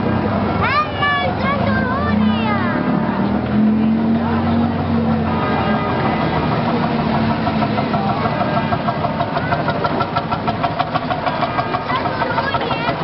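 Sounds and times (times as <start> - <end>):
tractor engines chugging: 0.0 - 13.0.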